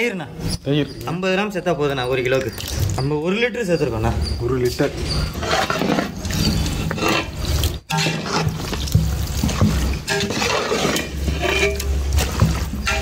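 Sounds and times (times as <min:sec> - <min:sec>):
spoon squelching in metal pot: 0:00.5 - 0:13.0.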